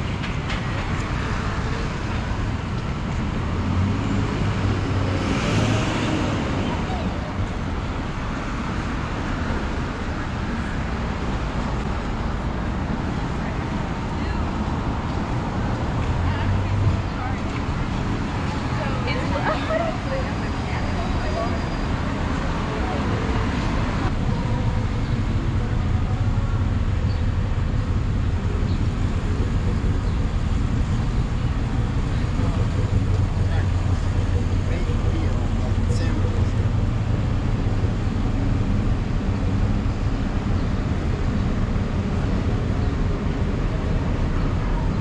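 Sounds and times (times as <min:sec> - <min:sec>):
city street traffic rumble: 0:00.0 - 0:45.0.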